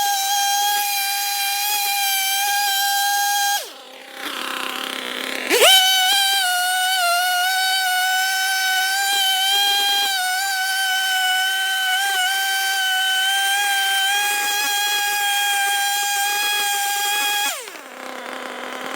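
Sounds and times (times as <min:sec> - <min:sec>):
chainsaw cutting log: 0:00.0 - 0:18.9.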